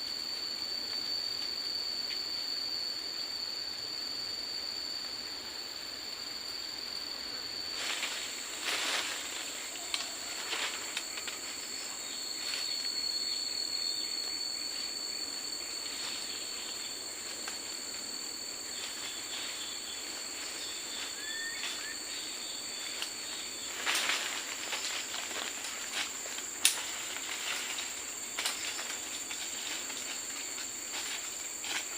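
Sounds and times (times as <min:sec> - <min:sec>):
high-pitched insects buzzing: 0:00.0 - 0:31.9
rustle: 0:00.0 - 0:31.9.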